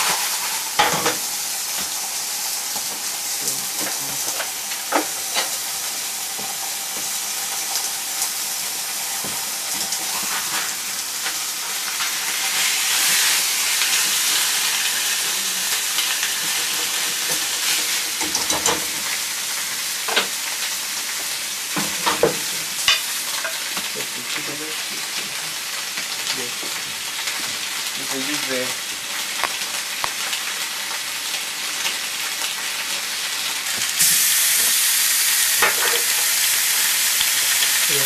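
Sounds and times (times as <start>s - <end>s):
meat sizzling in a pan: 0.0s - 38.0s.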